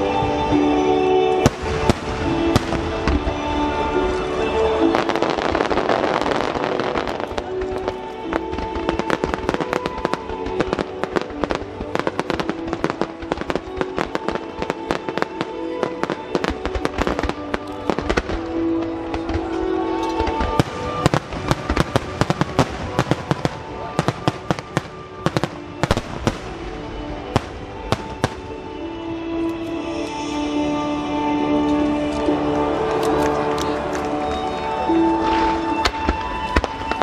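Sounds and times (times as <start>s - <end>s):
sustained music notes: 0.0s - 37.0s
fireworks popping and crackling: 1.4s - 28.8s, 31.6s - 37.0s.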